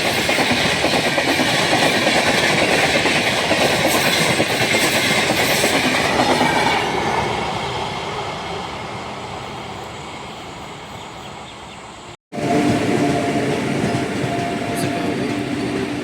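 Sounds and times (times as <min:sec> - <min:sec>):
train noise with high tone: 0:00.0 - 0:16.0
train running on track: 0:00.0 - 0:16.0.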